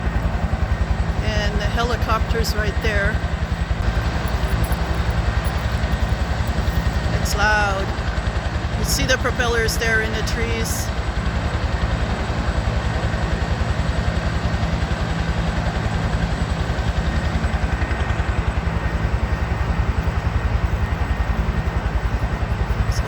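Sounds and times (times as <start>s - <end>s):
helicopter hovering: 0.0s - 23.0s.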